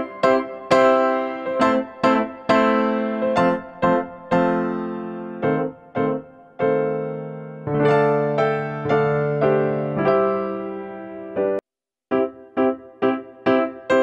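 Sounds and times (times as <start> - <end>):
electric piano melody: 0.0 - 14.0.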